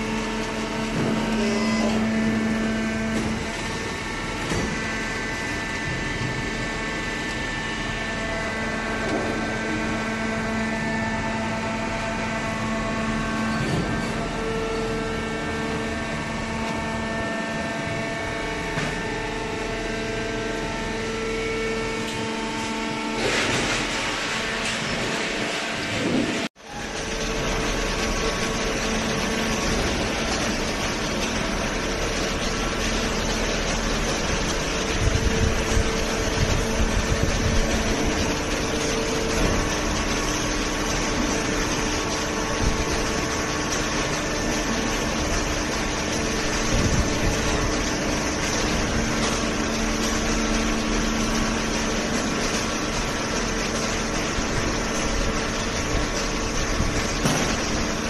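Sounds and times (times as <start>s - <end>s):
baler machine hum: 0.0s - 58.0s.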